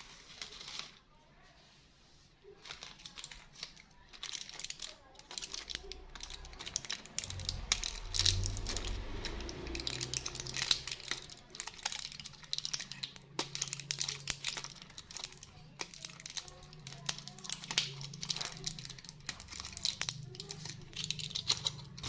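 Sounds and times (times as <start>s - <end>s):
blister pack foil crinkling: 0.0s - 1.1s, 2.4s - 22.0s.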